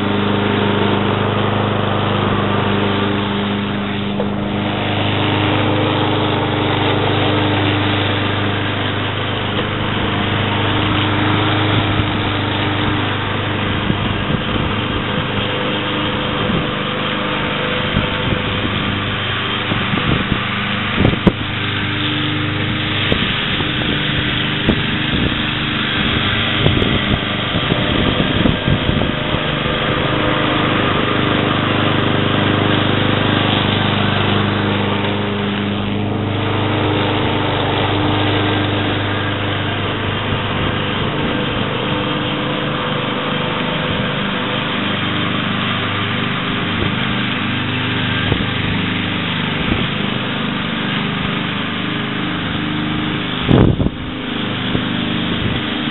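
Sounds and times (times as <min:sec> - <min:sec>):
lawn mower engine running: 0:00.0 - 0:55.9.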